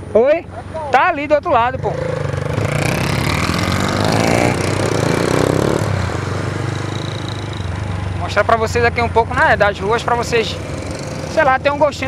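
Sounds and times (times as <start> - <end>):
motorcycle engine running: 1.5 - 12.0.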